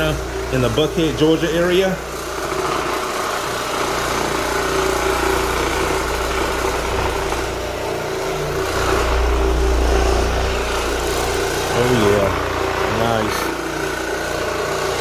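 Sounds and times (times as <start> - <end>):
floor scrubbing machine humming: 0.0 - 15.0.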